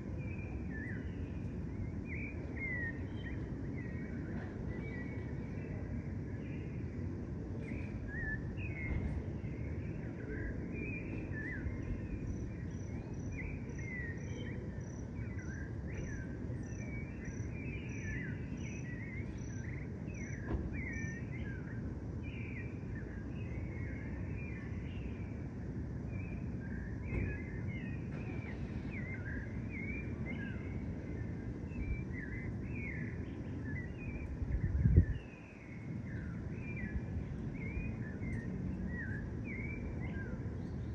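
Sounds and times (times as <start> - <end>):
city background rumble: 0.0 - 40.9
small birds chirping: 0.0 - 40.9.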